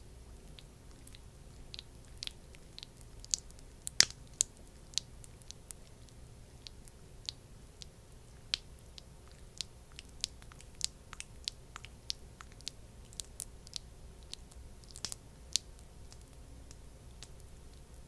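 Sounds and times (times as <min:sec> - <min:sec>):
sticky cream clicking: 0:00.5 - 0:18.0.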